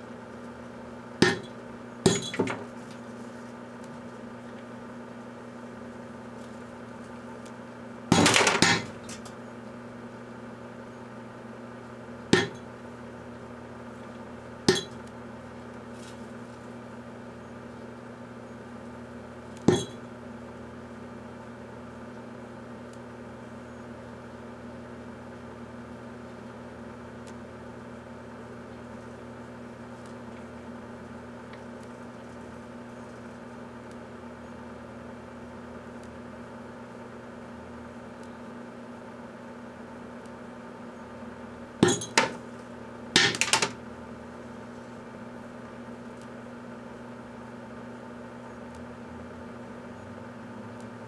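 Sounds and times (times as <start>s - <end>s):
microwave oven humming: 0.0s - 51.0s.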